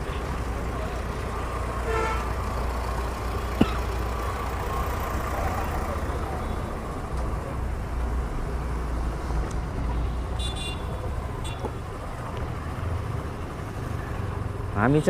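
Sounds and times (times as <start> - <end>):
engine rumble: 0.0 - 14.8
road traffic: 0.0 - 15.0.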